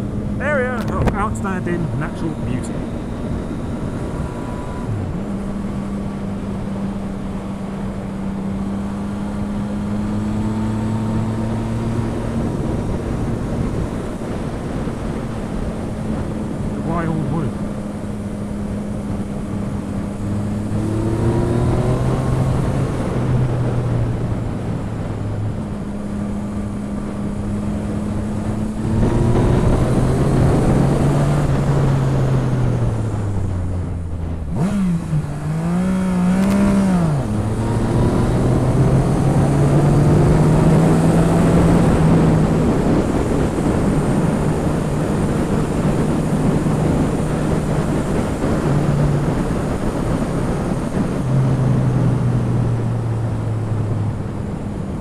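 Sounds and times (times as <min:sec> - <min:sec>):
motorcycle engine revving through gears: 0:02.3 - 0:55.0
wind rush: 0:09.8 - 0:55.0.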